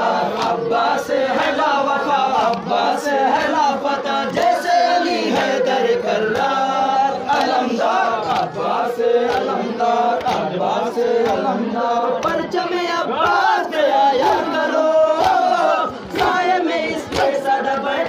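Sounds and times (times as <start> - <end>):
crowd chanting: 0.0 - 18.0.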